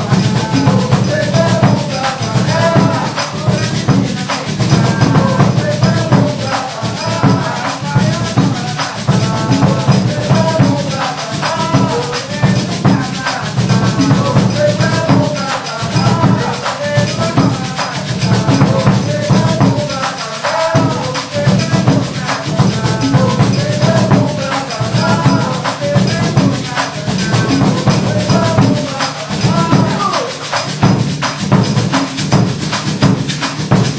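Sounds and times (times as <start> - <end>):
low drum: 0.0 - 19.9, 20.8 - 33.9
person singing: 0.0 - 30.8
hand percussion fast rhythm: 0.0 - 33.9.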